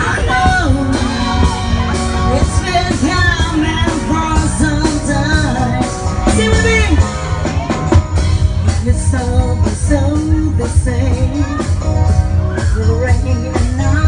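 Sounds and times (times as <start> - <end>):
woman singing into microphone: 0.0 - 7.0, 8.6 - 14.0
drum kit: 0.0 - 14.0
electric guitar: 0.0 - 14.0.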